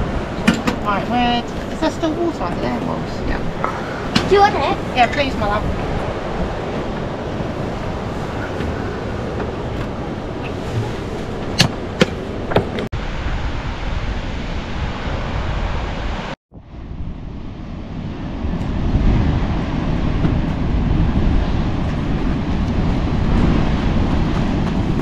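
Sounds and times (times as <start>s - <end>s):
breaking surf: 0.0s - 25.0s
wind rumbling on microphone: 0.0s - 25.0s.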